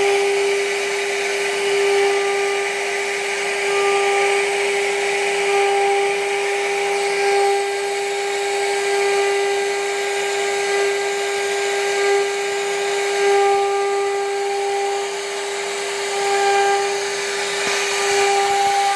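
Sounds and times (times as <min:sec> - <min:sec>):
router bit cutting wood: 0:00.0 - 0:18.9
router spindle whining: 0:00.0 - 0:18.9.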